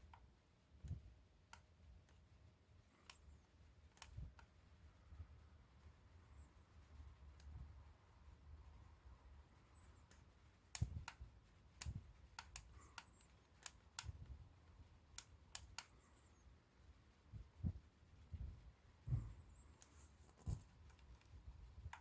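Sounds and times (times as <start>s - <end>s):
light clicks and taps: 0.0s - 22.0s.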